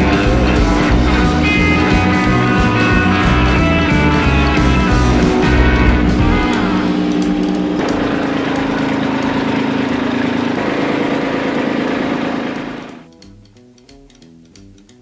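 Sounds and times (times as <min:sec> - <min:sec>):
tractor diesel engine running: 0:00.0 - 0:13.1.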